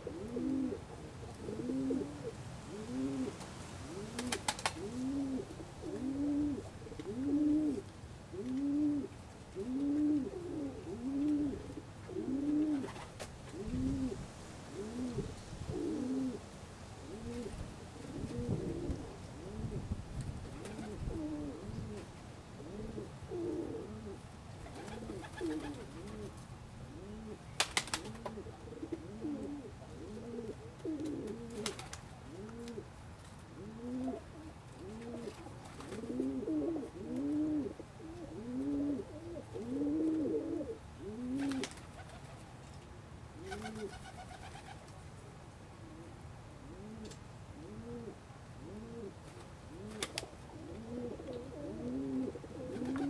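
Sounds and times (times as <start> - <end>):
pigeons cooing: 0.0 - 14.2, 14.8 - 16.4, 17.1 - 19.8, 20.6 - 32.9, 33.6 - 42.2, 43.4 - 44.8, 45.8 - 53.0.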